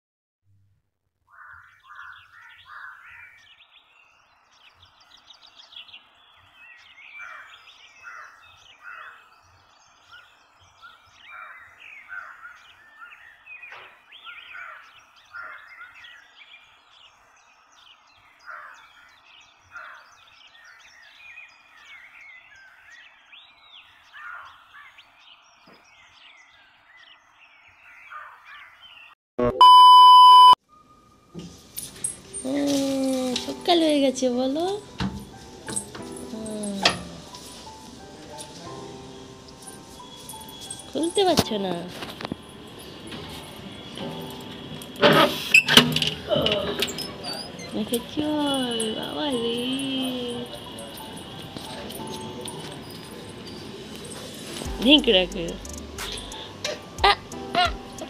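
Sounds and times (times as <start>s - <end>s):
birds chirping: 1.3s - 58.0s.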